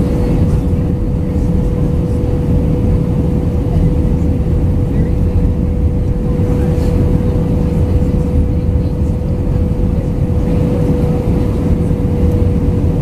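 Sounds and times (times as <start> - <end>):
airliner cabin rumble: 0.0 - 13.0
mid-pitched hum: 0.0 - 13.0.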